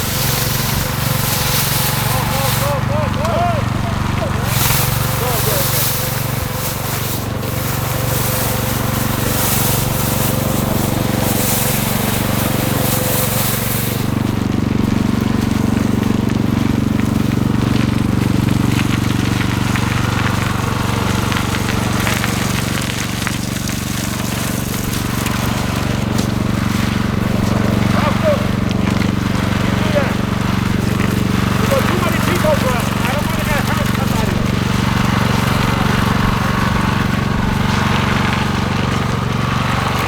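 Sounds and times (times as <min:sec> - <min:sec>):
low engine hum: 0:00.0 - 0:40.0
street noise hiss: 0:00.0 - 0:40.0.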